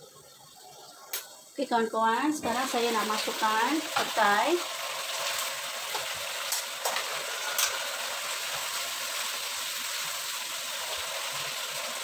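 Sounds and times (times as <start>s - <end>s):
paste sizzling in oil: 1.4s - 12.0s.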